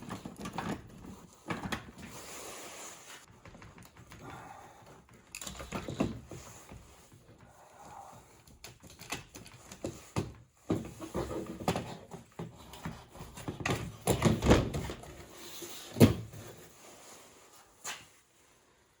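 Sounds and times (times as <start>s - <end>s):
plastic parts and tools clattering: 0.0s - 2.2s, 3.2s - 16.6s.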